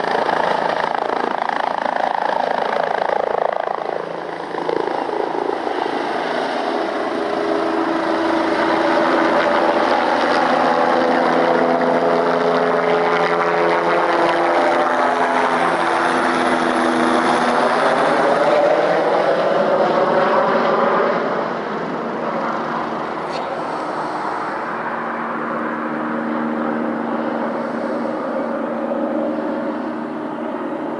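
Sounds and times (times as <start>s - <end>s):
helicopter flying past: 0.0s - 30.9s.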